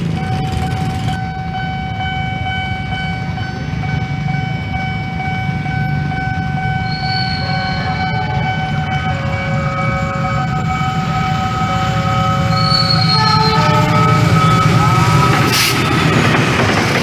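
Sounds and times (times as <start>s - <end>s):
high-pitched tone: 0.0s - 16.3s
train rumbling: 0.0s - 17.0s.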